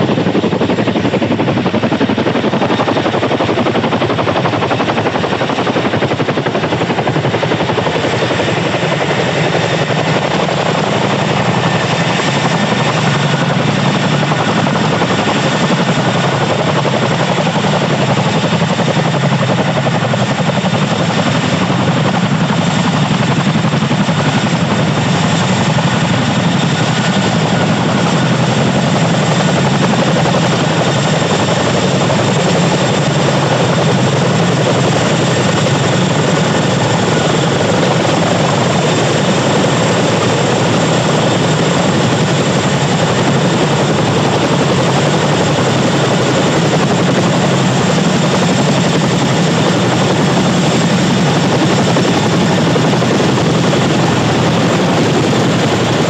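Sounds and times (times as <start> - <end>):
helicopter rotor and engine noise: 0.0 - 56.0
high turbine whine: 0.0 - 56.0.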